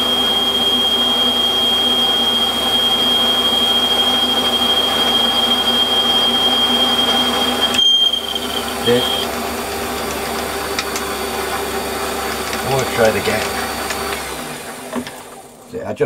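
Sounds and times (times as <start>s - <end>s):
high-pitched cutting whine: 0.0s - 15.0s
metal lathe whirring: 0.0s - 15.4s.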